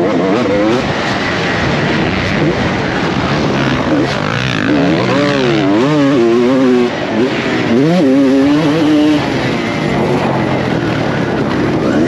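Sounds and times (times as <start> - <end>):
motocross engine revving: 0.0 - 12.0.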